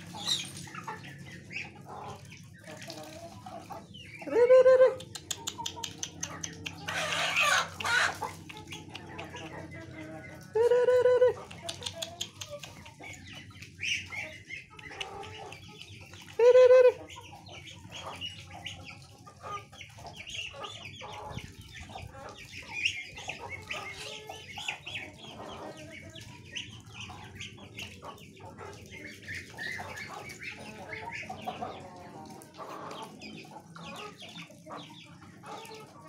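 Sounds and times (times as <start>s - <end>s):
ducks pecking and bill clicks: 0.0s - 4.3s, 4.9s - 10.6s, 11.2s - 16.4s, 17.0s - 36.0s
chickens clucking: 0.0s - 36.0s.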